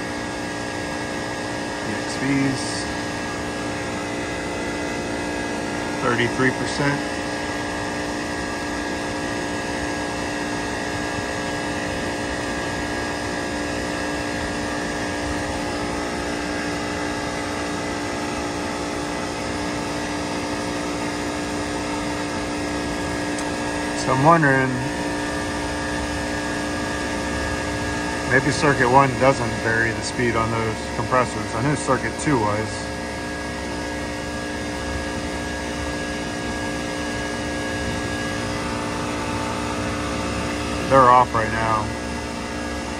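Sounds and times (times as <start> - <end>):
chiller humming: 0.0 - 42.9.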